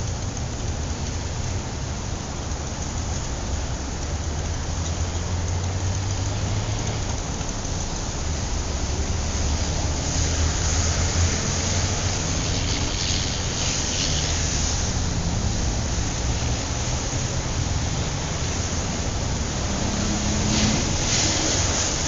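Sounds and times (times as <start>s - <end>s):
passing traffic rumble: 0.0s - 22.0s
vehicle passing with hiss: 0.0s - 22.0s.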